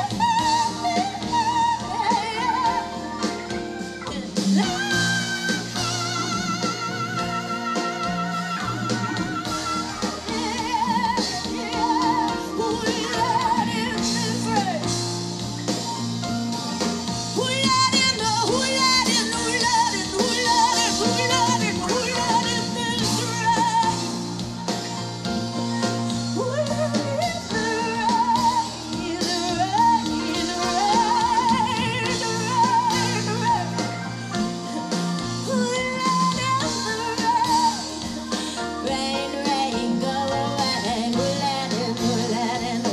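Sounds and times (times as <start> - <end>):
woman singing wordless notes: 0.0 - 15.0, 17.3 - 24.5, 26.3 - 34.1, 34.7 - 42.9
live band music: 0.0 - 42.9.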